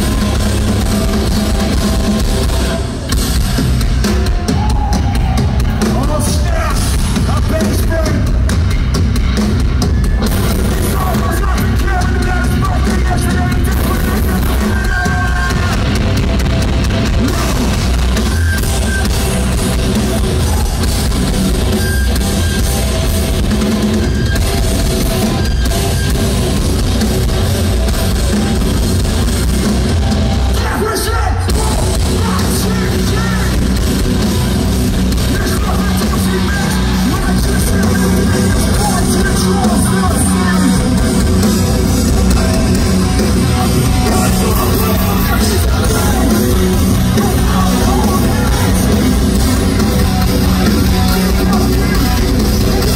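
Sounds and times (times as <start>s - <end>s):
hardcore band playing live: 0.0s - 52.9s.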